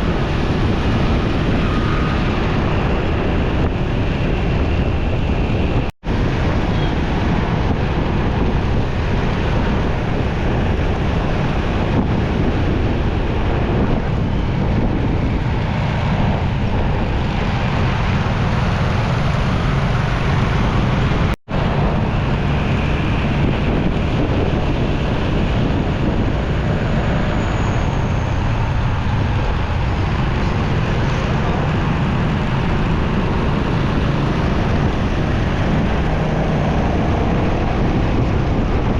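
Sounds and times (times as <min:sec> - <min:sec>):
road traffic: 0:00.0 - 0:38.9
wind rushing over microphone: 0:00.0 - 0:38.9.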